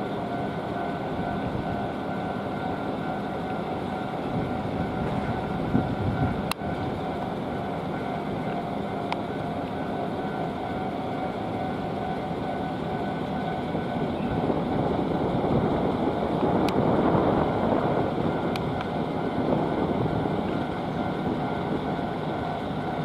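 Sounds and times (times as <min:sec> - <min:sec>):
crossing warning bell: 0:00.0 - 0:23.0
train wheels rolling on rail: 0:00.0 - 0:23.0.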